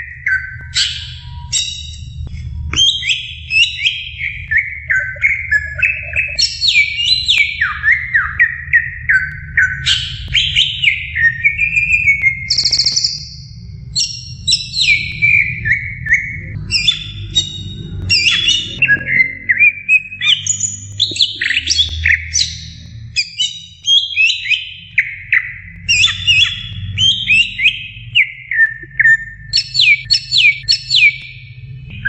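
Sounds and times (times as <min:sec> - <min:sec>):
bird singing whistled notes: 0:00.0 - 0:32.0.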